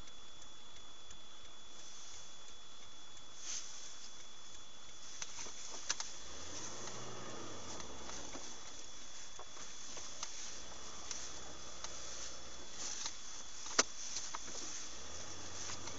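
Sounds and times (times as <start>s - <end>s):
faint low hum: 0.0s - 15.9s
light ticks: 0.0s - 15.9s
steady hiss with thin whine: 0.0s - 15.9s.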